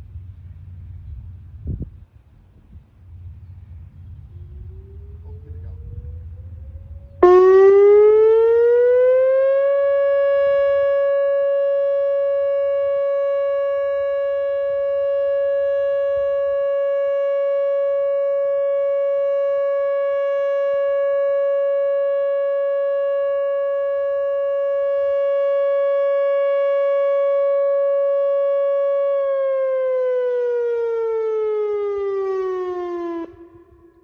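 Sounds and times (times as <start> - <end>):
tornado warning siren: 3.0 - 34.0.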